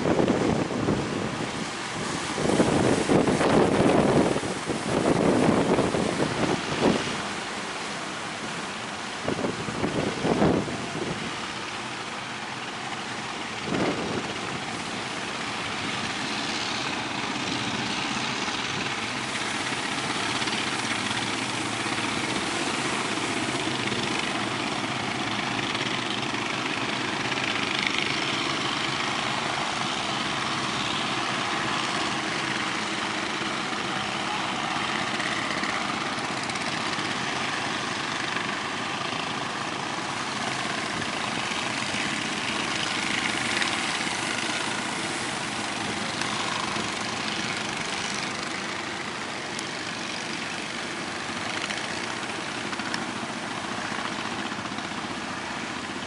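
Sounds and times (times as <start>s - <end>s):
boat engines running: 0.0s - 56.0s.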